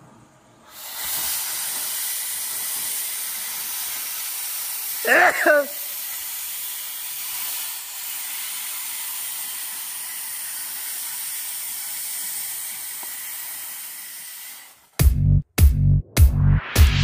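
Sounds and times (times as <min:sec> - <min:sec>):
cutting torch hissing: 0:00.4 - 0:15.0.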